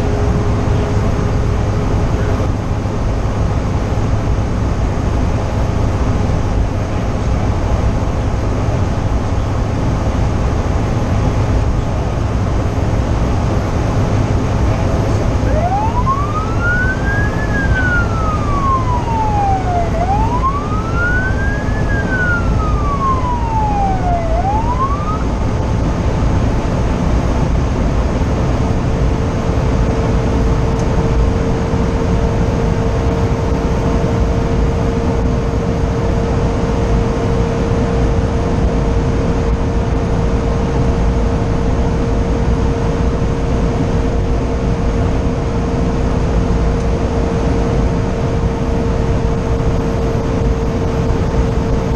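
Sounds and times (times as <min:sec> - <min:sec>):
fire engine siren wailing: 0:00.0 - 0:51.9
truck engine rumble: 0:00.0 - 0:51.9.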